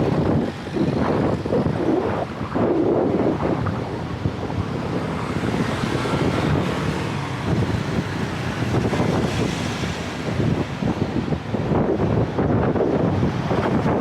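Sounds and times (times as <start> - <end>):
road traffic: 0.0 - 14.0
wind buffeting microphone: 0.0 - 14.0.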